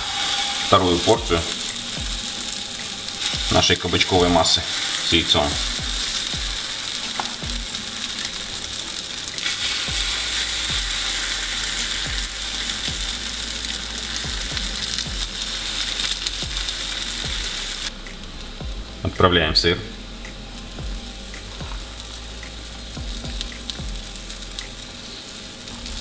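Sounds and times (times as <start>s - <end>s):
batter sizzling in oil: 0.0s - 26.0s.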